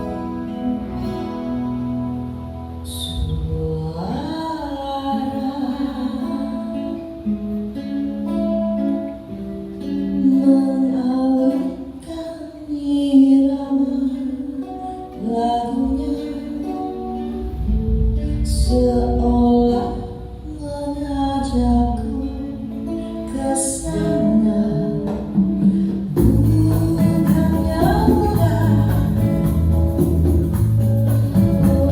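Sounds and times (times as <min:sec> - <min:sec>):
slow song with plucked strings: 0:00.0 - 0:31.9.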